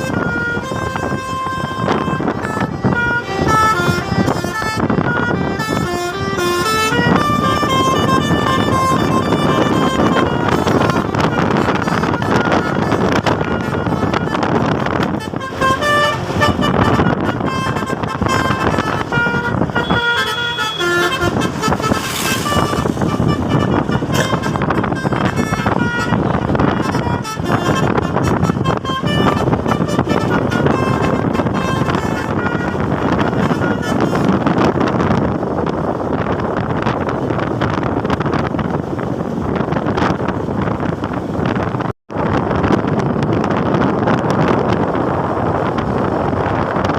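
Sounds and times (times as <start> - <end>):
multi-tone bus horn tune: 0.0 - 42.4
vehicle noise: 0.0 - 46.9
wind noise on microphone: 0.0 - 46.9.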